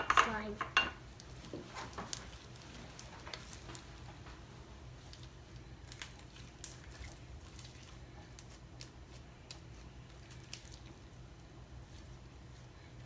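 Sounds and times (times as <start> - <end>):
faint low hum: 0.0 - 13.0
slime squelching: 1.1 - 13.0.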